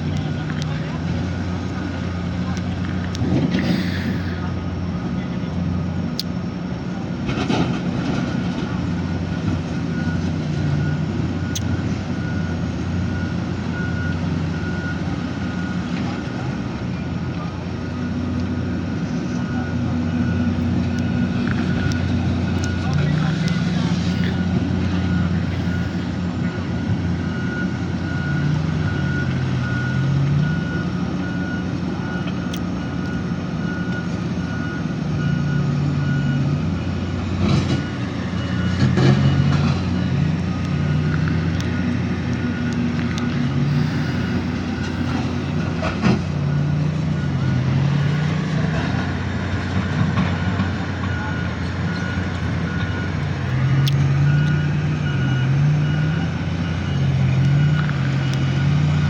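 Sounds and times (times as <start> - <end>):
diesel engines working: 0.0 - 59.0
reversing alarm beeping: 3.5 - 4.8, 8.1 - 59.0.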